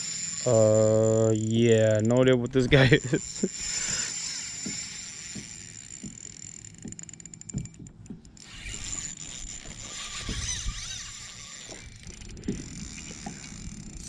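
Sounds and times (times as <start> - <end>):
water swishing along kayak hull: 0.0 - 14.0.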